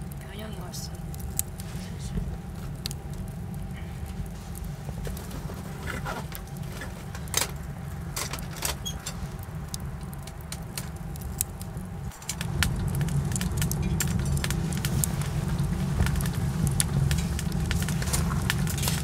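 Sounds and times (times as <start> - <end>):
firewood crackling and popping: 0.0 - 19.0
stove low rumble: 0.0 - 19.0.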